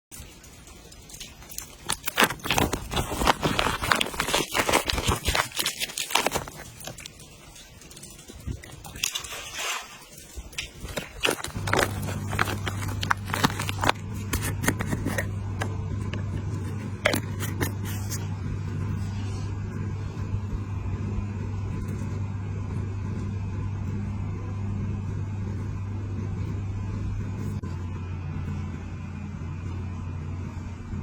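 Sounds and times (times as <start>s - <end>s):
engine humming steadily: 0.4s - 31.0s.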